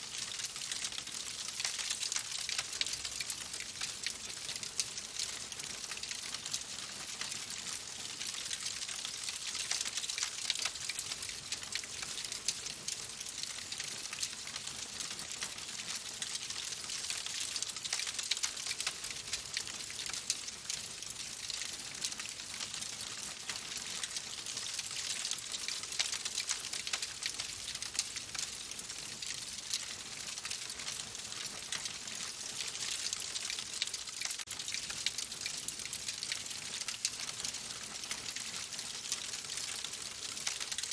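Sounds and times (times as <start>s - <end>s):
wood fire crackling: 0.1s - 20.8s, 25.0s - 40.9s.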